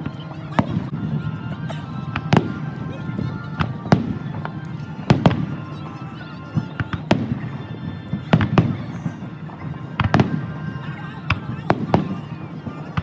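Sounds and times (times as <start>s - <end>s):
fireworks booming: 0.0s - 5.9s, 6.5s - 13.0s
background music: 0.0s - 13.0s.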